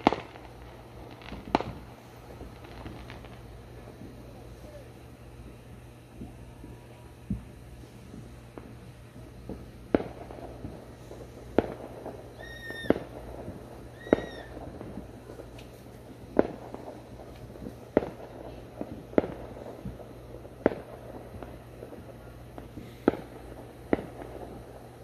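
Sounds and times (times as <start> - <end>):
fireworks bangs: 0.0 - 25.0
steady low hum: 0.0 - 25.0.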